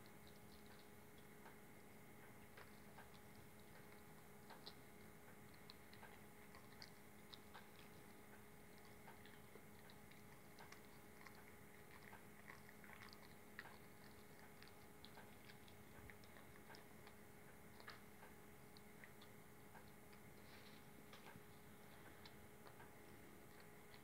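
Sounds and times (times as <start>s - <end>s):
dog chewing: 0.0s - 24.0s
low electrical hum: 0.0s - 24.0s.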